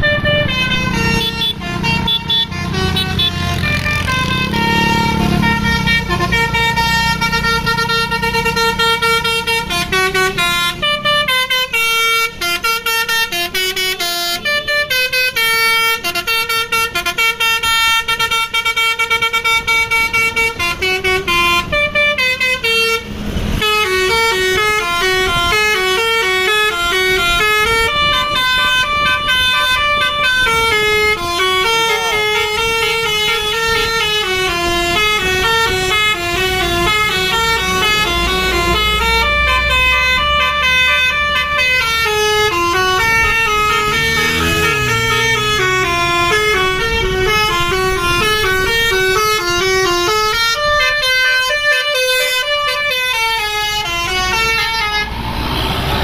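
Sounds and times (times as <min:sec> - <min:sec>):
musical air horn melody: 0:00.0 - 0:55.2
bus engine running: 0:00.0 - 0:56.0.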